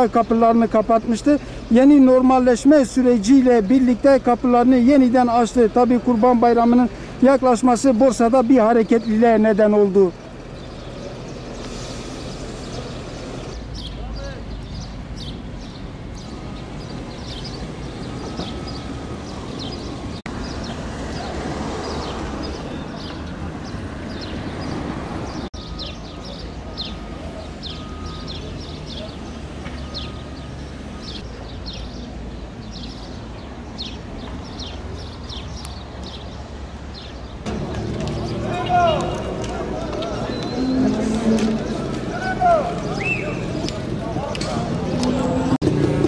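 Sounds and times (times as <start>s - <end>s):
small birds chirping: 0.0s - 45.4s.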